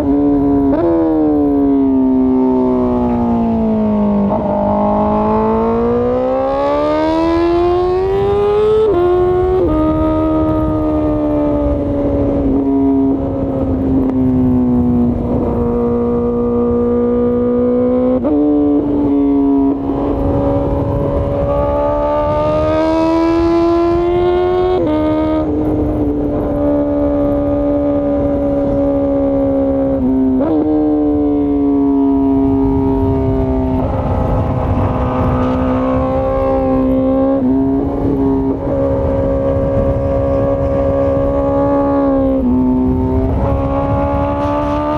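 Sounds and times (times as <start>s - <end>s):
motorcycle engine at high revs: 0.0s - 44.9s.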